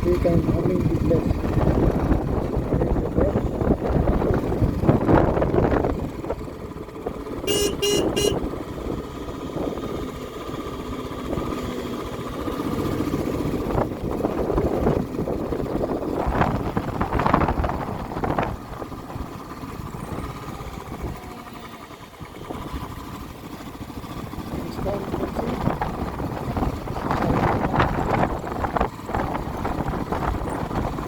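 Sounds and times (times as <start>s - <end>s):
vehicle engine and road noise: 0.0s - 31.0s.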